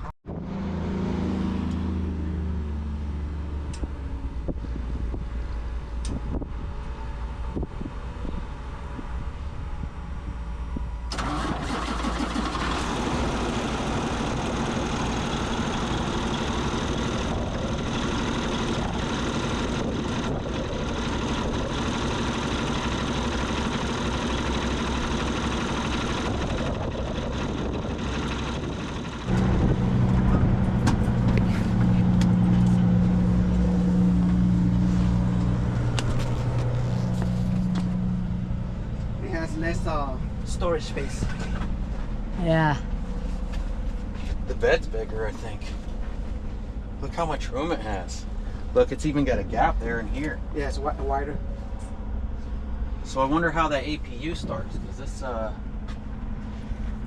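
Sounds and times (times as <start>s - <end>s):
engine deep hum: 0.0s - 57.0s.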